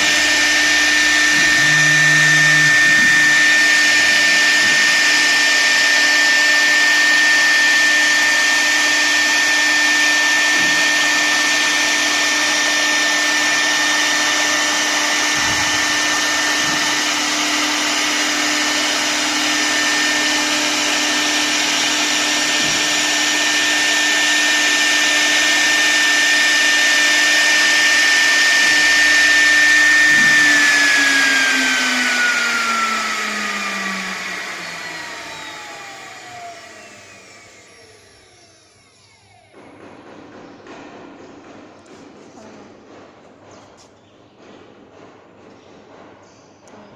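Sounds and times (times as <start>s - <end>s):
router spindle motor whine: 0.0s - 39.6s.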